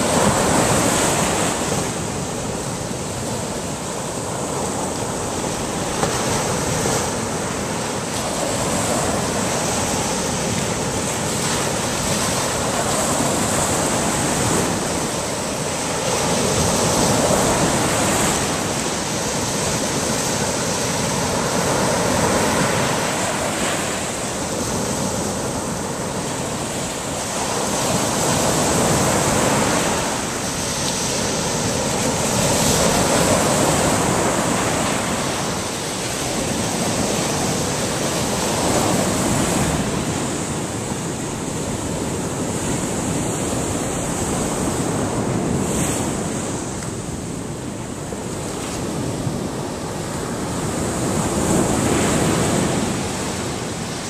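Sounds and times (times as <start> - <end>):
surf breaking on a beach: 0.0 - 54.0.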